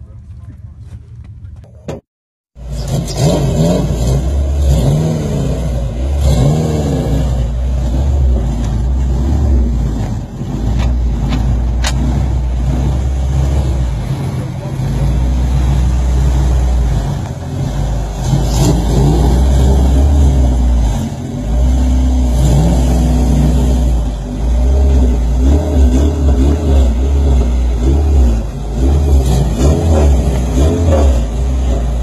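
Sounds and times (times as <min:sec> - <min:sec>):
car engines revving: 0:02.6 - 0:32.0.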